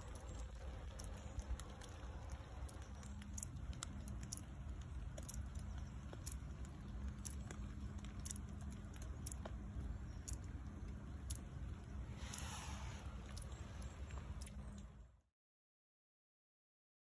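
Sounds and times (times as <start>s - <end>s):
low steady rumble: 0.0s - 15.3s.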